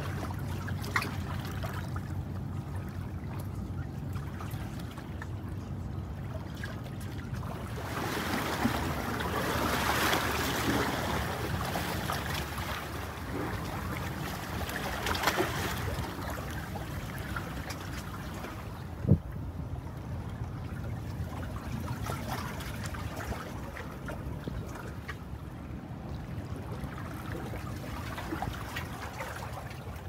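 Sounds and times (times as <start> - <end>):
low steady engine hum: 0.0 - 30.0
water washing and lapping: 0.0 - 30.0.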